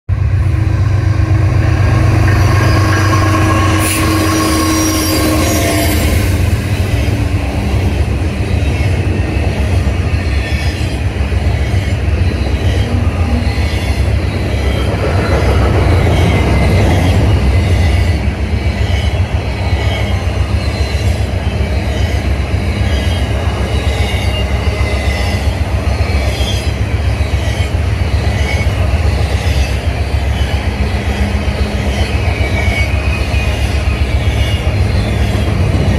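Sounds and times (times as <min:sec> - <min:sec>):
diesel locomotives running: 0:00.1 - 0:35.9
train wheels on rails: 0:00.1 - 0:35.9
high-pitched wheel squeal: 0:01.1 - 0:07.9, 0:08.6 - 0:35.9.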